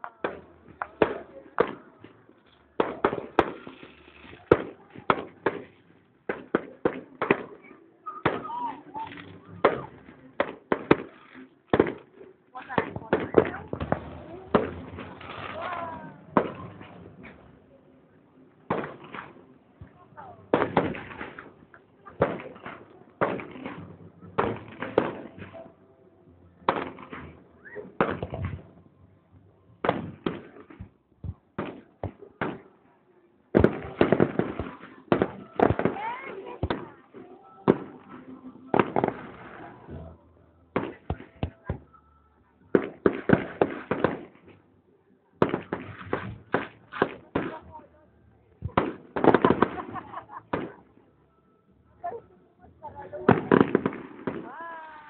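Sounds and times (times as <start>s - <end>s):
fireworks bangs: 0.1s - 17.6s, 18.6s - 25.7s, 26.6s - 28.8s, 29.8s - 32.8s, 33.5s - 41.9s, 42.7s - 44.6s, 45.4s - 47.9s, 48.6s - 50.9s, 53.1s - 55.0s.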